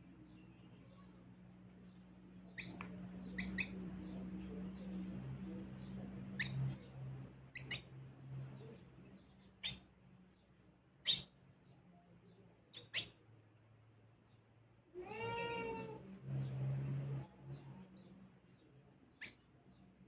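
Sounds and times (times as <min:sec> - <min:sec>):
sparrows chirping: 0:00.0 - 0:13.2, 0:15.2 - 0:20.0.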